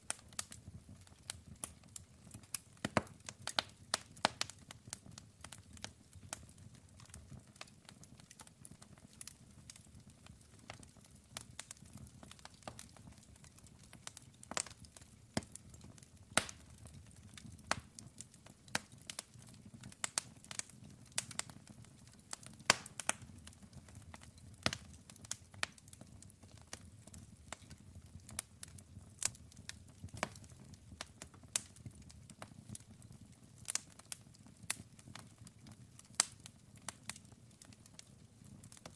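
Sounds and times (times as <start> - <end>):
burning wood crackling: 0.0 - 38.9.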